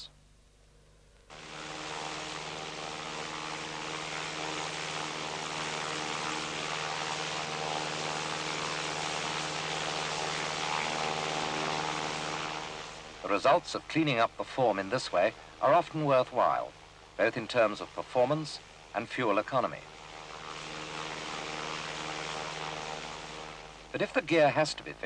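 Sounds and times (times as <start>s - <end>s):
propeller aircraft engine drone: 1.3s - 25.0s.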